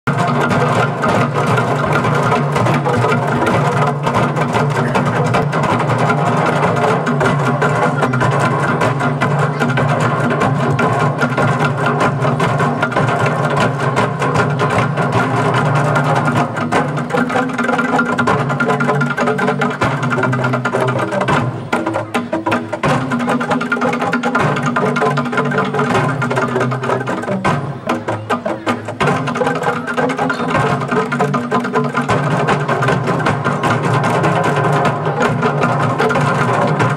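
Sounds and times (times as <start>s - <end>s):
bamboo tube percussion: 0.1s - 36.9s
hand drums: 0.1s - 36.9s.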